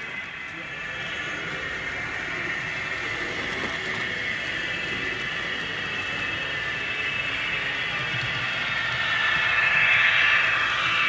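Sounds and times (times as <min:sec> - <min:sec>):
model train whirring on track: 0:00.0 - 0:11.0.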